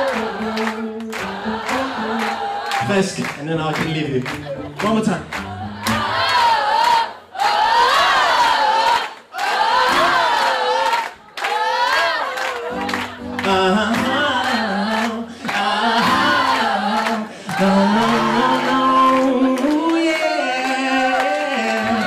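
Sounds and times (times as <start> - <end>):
crowd singing together: 0.0 - 3.0, 3.9 - 22.0.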